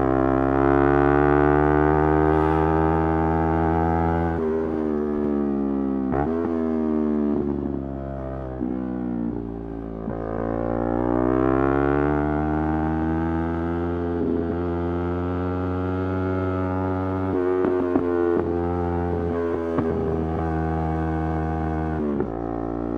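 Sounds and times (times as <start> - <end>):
motorcycle engine revving: 0.0 - 8.9, 10.0 - 22.9.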